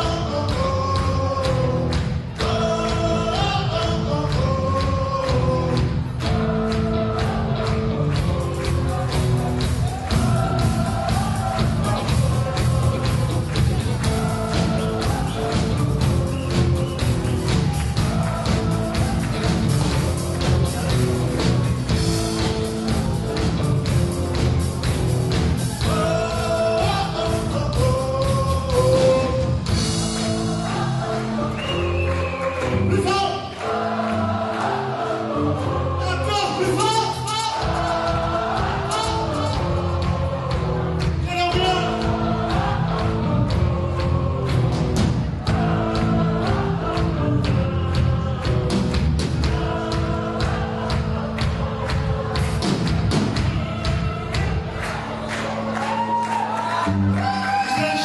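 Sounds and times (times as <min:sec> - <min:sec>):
person singing: 0:00.0 - 0:24.7, 0:25.8 - 0:58.0
drum beat: 0:00.0 - 0:31.4, 0:36.4 - 0:56.2
live rock band playing: 0:00.0 - 0:56.4
steady bass: 0:00.0 - 0:58.0.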